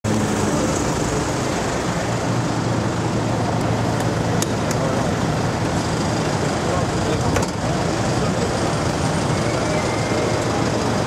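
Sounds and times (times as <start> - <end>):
city street traffic: 0.0 - 11.0
engine idling: 0.1 - 11.0.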